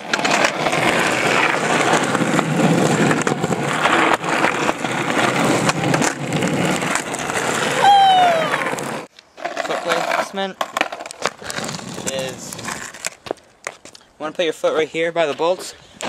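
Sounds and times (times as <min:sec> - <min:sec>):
skateboard wheels rolling on asphalt: 0:00.0 - 0:16.0.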